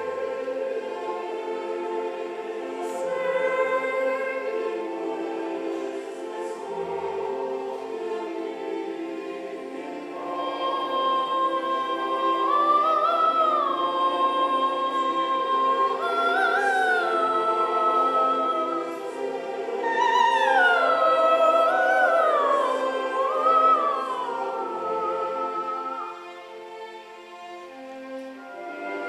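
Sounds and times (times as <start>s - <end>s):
soprano singing opera: 0.0s - 26.6s.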